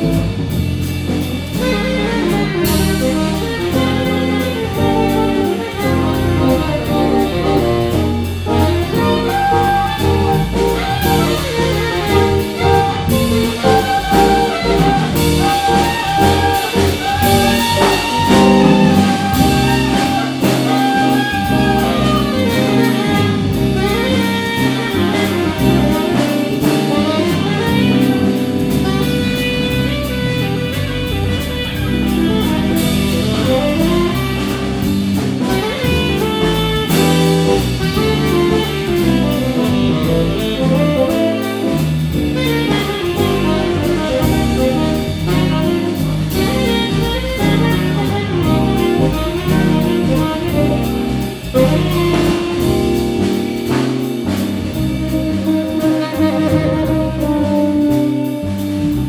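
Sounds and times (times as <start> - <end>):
drum kit: 0.0 - 59.0
electric bass: 0.0 - 59.0
saxophone: 0.0 - 59.0.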